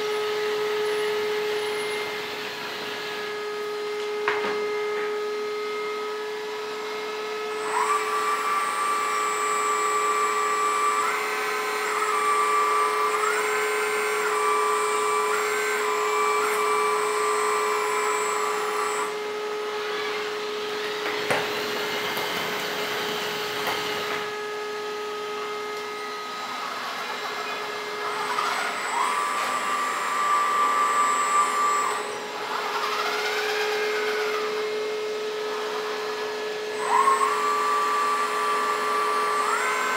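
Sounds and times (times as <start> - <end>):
hydraulic pump whining: 0.0 - 39.9.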